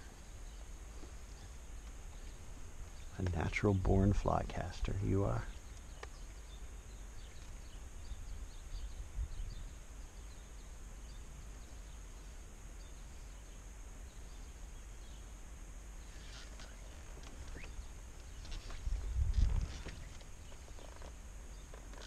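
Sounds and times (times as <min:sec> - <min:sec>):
steady low rumble: 0:00.0 - 0:16.2, 0:16.8 - 0:21.6.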